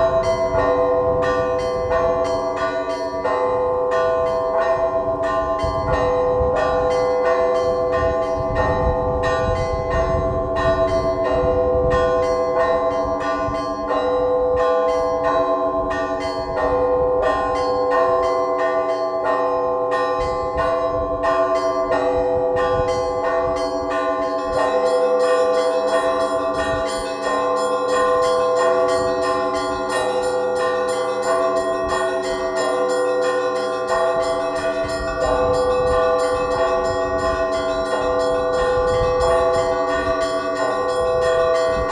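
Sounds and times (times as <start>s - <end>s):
large bells ringing: 0.0s - 41.9s.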